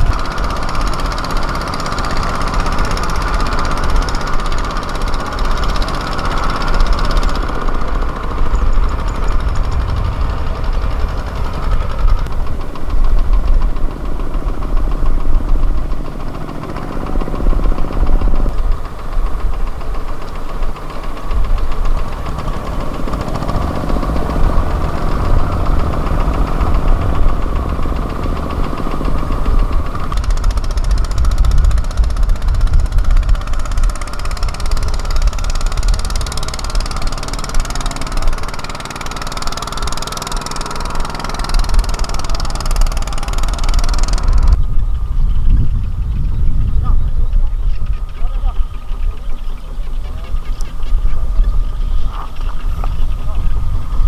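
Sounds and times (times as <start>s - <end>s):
tiller engine running: 0.0s - 54.0s.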